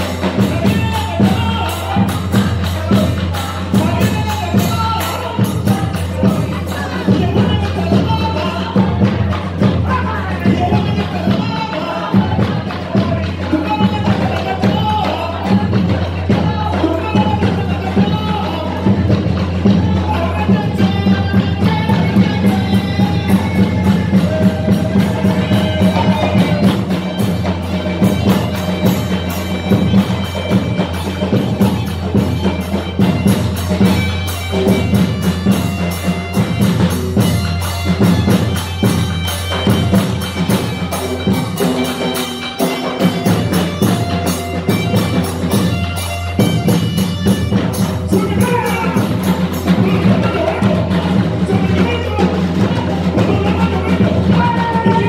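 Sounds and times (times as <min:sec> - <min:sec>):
fast dense drumming: 0:00.0 - 0:55.0
folk dance music: 0:00.0 - 0:55.0.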